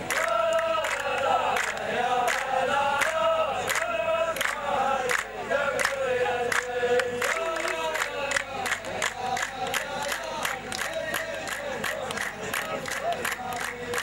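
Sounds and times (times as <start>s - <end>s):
men chanting in unison: 0.0s - 14.0s
rhythmic hand clapping: 0.0s - 14.0s.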